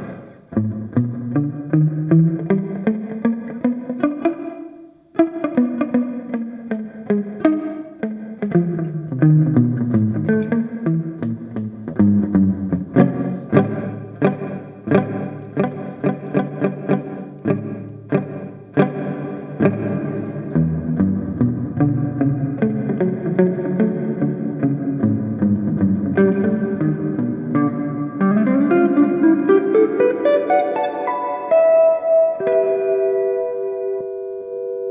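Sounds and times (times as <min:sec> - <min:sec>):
electric guitar with reverb: 0:00.0 - 0:34.9.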